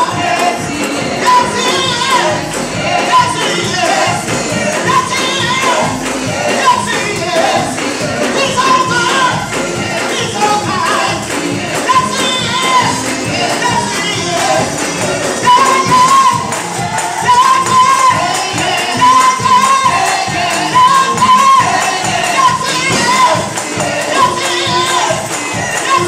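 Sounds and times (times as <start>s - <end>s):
congregation singing: 0.0s - 26.0s
drum kit: 0.0s - 26.0s
tambourine shaking: 0.0s - 26.0s
women singing gospel: 0.0s - 26.0s.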